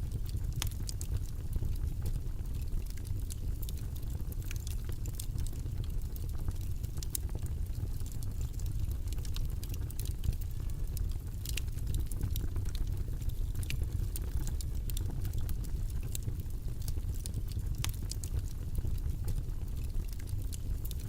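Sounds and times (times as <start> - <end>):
low rumble of white noise: 0.0 - 21.0.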